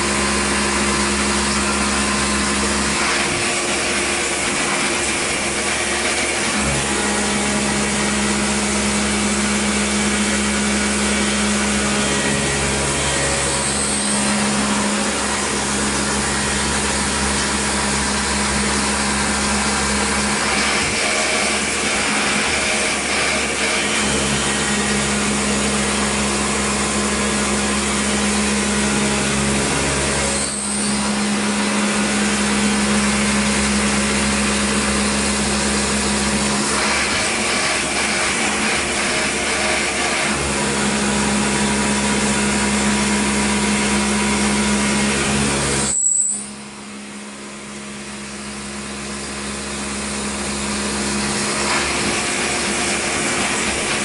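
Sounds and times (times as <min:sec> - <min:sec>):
low machine hum: 0:00.0 - 0:54.0
milling machine cutting metal: 0:00.0 - 0:54.0.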